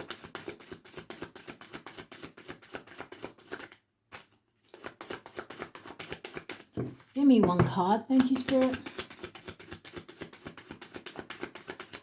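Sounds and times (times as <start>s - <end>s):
cards being shuffled: 0.1s - 7.1s, 8.2s - 12.0s.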